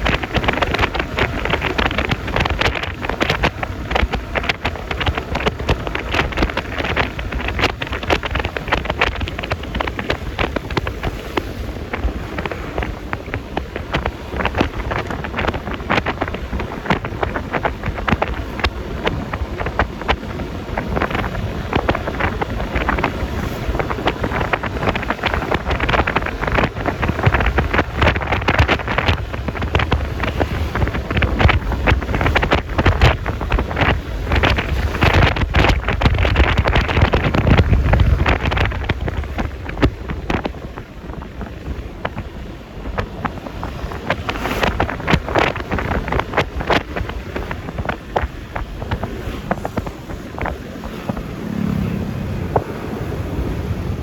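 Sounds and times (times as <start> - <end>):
road and traffic noise: 0.0 - 54.0
wind buffeting microphone: 0.0 - 54.0.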